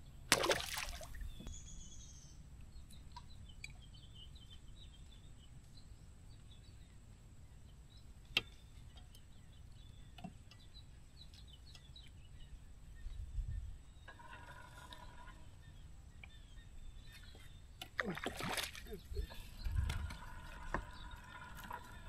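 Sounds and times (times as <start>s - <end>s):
calm water ambience: 0.0s - 22.0s.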